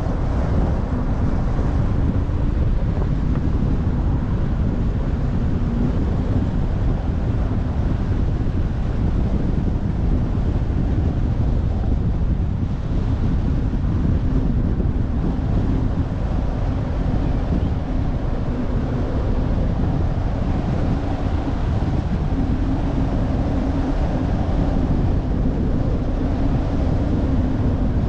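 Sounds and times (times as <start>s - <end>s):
wind blowing across microphone: 0.0s - 28.0s.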